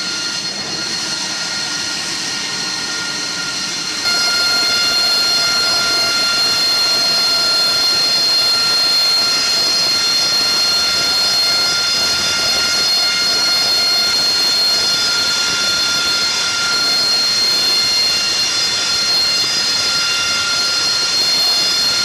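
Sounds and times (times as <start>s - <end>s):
jet engine idling whine: 0.0s - 22.0s.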